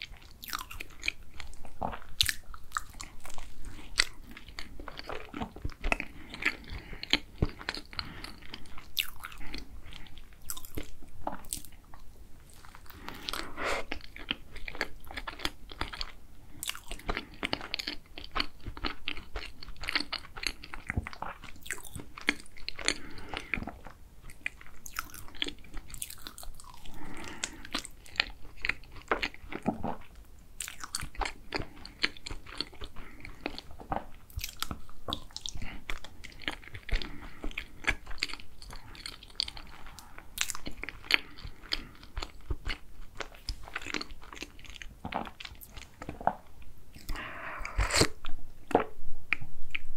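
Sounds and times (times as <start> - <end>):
chewing and crunching pastry: 0.0 - 49.9.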